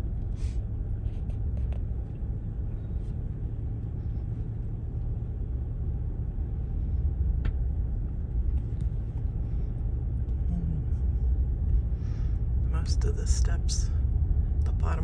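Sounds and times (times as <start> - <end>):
vehicle rumble on sand: 0.0 - 15.0.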